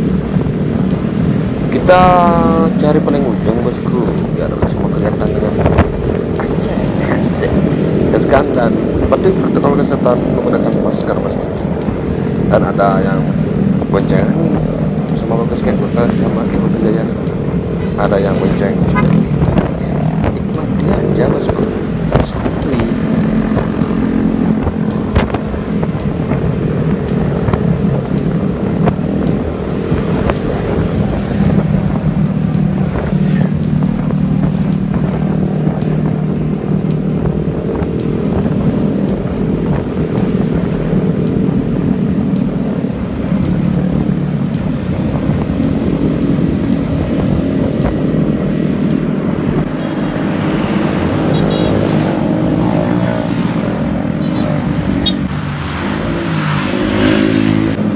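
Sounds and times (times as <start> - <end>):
road and wind noise: 0.0 - 57.9
scooter engine hum: 0.0 - 57.9.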